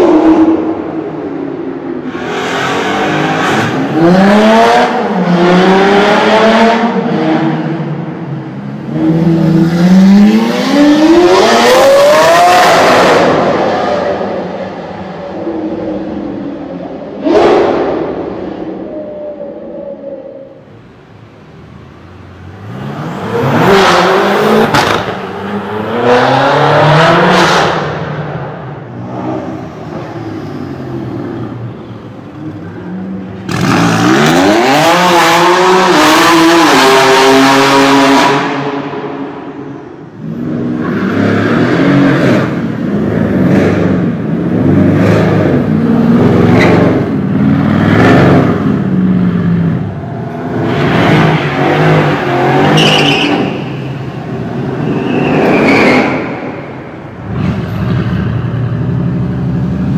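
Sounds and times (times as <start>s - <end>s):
car engines revving hard: 0.0s - 18.9s, 20.7s - 59.9s.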